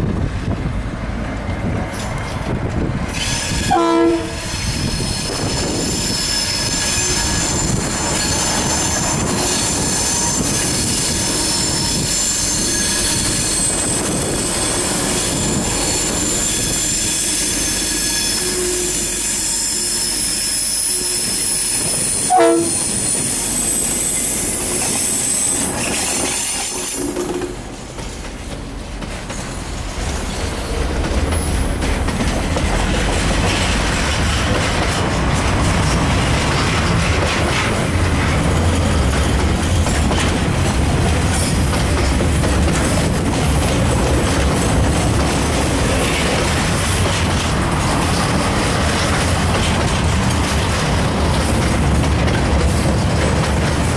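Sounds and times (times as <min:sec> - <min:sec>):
rail clicks: 0:00.0 - 0:53.9
train wheels rumbling on rail: 0:00.0 - 0:53.9.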